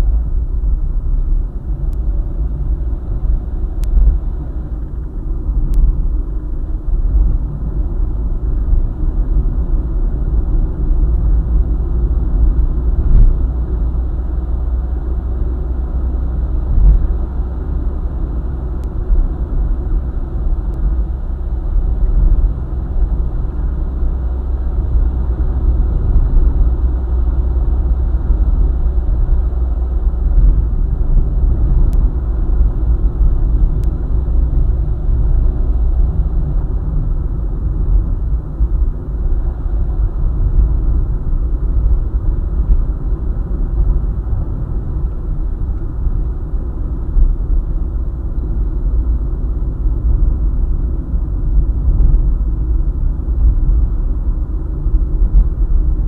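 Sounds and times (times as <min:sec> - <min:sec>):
car engine: 0:00.0 - 0:56.0
tyres rumbling on road: 0:00.0 - 0:56.0.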